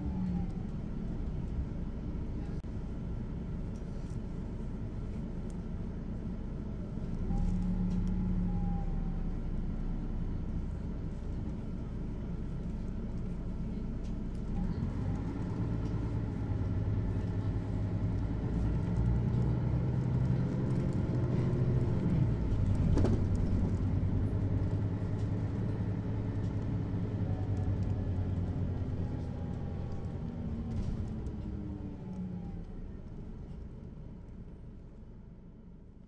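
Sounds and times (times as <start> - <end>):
bus engine hum from inside: 0.0 - 36.0.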